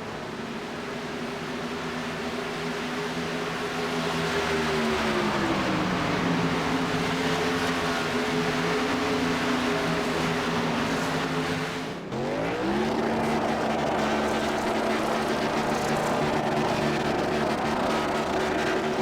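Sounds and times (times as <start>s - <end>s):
racing truck engine at high revs: 0.0s - 19.0s.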